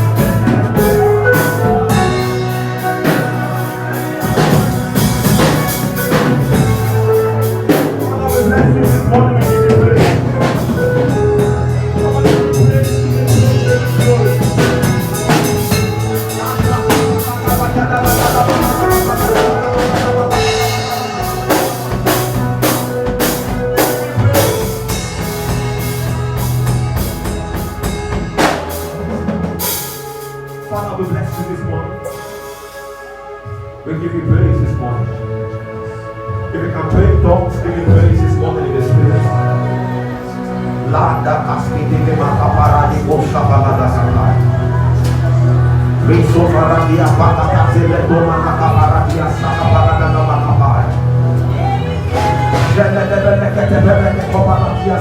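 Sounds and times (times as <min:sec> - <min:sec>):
drum kit beat: 0:00.0 - 0:33.1, 0:41.7 - 0:55.0
worship band music: 0:00.0 - 0:55.0.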